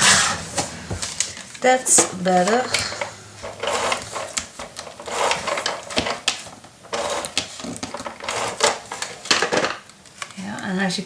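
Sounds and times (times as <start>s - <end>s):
paper rustling and scraping: 0.0s - 9.7s.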